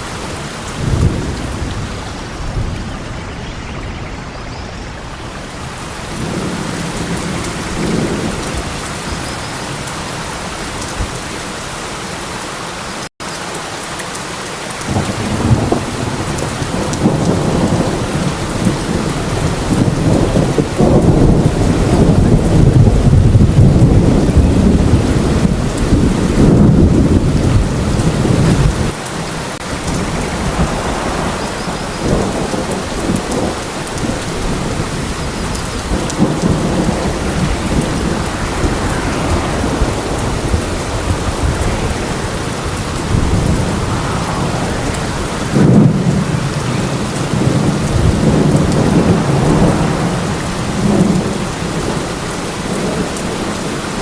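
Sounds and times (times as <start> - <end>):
rolling thunder: 0.0 - 11.4, 14.9 - 54.0
heavy rain: 0.0 - 54.0.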